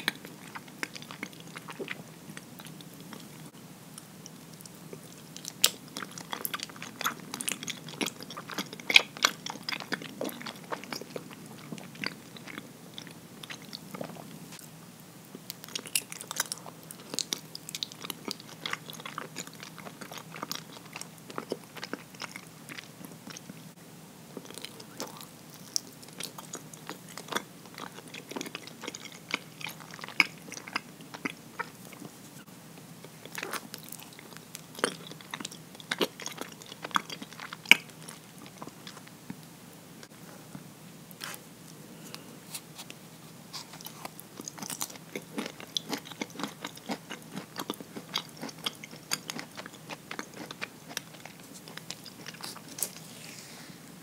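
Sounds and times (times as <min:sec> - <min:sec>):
wet chewing clicks and smacks: 0:00.0 - 0:03.3, 0:04.4 - 0:14.1, 0:15.4 - 0:23.5, 0:24.4 - 0:32.1, 0:33.0 - 0:39.1, 0:43.6 - 0:52.9.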